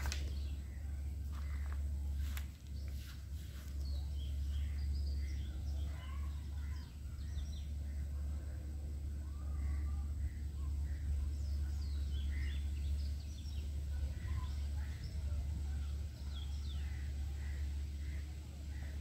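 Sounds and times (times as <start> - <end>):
birds chirping and calling: 0.0 - 19.0
steady low rumble: 0.0 - 19.0.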